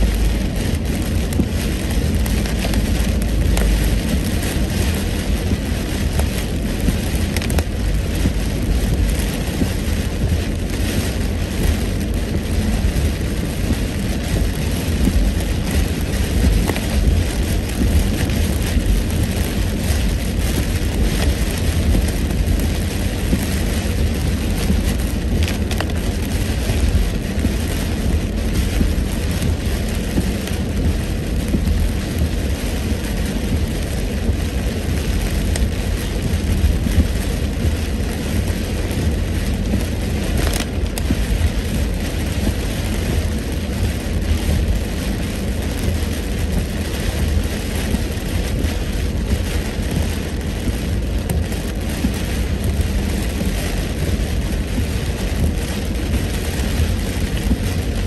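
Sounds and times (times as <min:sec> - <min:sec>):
heavy rain on car: 0:00.0 - 0:58.0
low rumble: 0:00.0 - 0:58.0
tyres hissing on wet road: 0:00.0 - 0:58.0.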